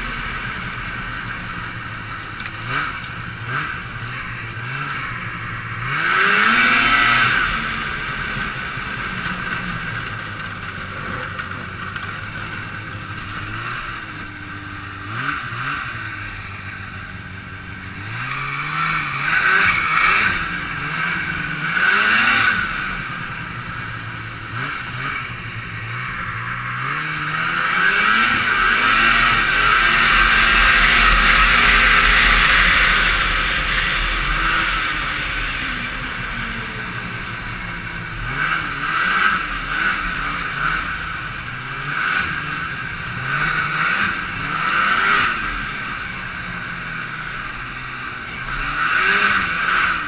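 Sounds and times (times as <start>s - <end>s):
snowmobile engine revving: 0.0s - 50.0s.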